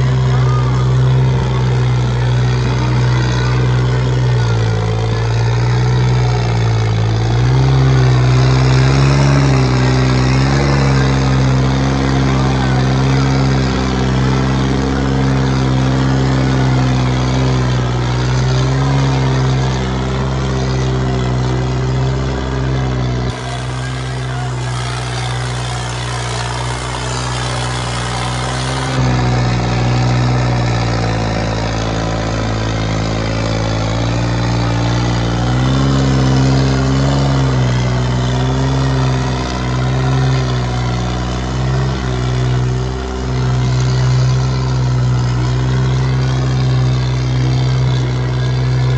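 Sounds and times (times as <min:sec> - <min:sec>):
diesel tractor engine revving: 0:00.0 - 0:48.9.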